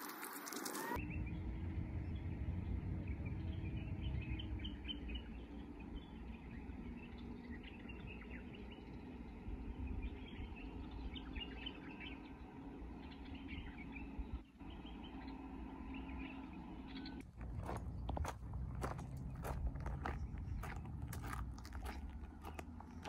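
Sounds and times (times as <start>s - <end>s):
small birds chirping: 0.8s - 23.0s
low background rumble: 1.0s - 23.0s.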